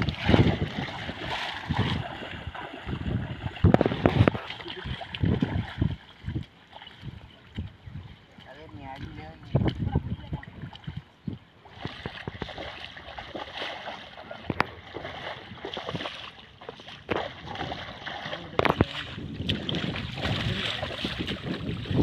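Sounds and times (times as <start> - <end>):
water sloshing and splashing: 0.0 - 22.0.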